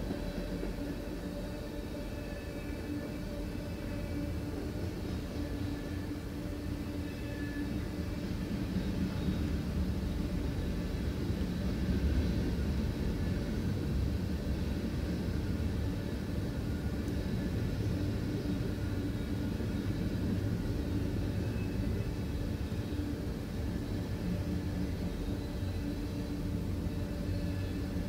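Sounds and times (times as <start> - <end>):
freight train wheels rumbling on rails: 0.0 - 28.0.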